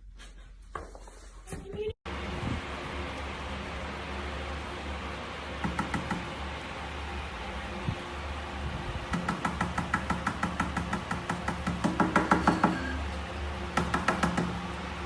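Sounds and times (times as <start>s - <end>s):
steady low hum: 2.1s - 15.0s.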